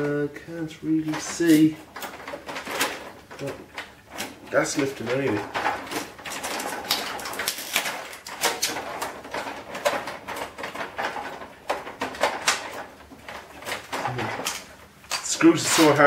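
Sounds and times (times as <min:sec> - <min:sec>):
plastic and steel parts rattling: 0:00.0 - 0:16.0.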